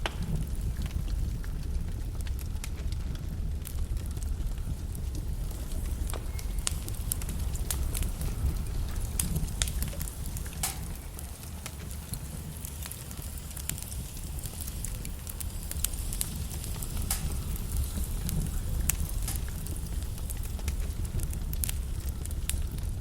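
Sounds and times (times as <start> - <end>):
logs crackling in fireplace: 0.0 - 23.0
low rumble of flames: 0.0 - 23.0.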